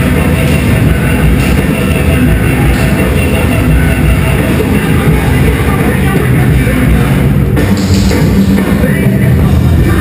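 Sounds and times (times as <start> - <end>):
loud rock music: 0.0 - 10.0.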